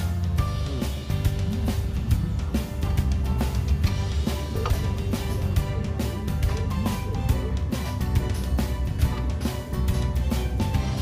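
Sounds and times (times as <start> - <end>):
music with strong bass beat: 0.0 - 11.0.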